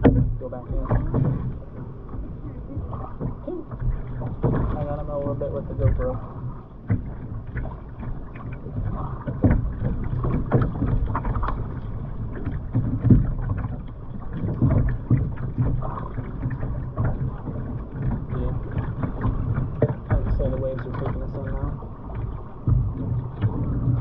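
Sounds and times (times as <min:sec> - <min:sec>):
dull knocks: 0:00.0 - 0:06.2, 0:06.8 - 0:24.0
muffled water sloshing: 0:00.0 - 0:24.0.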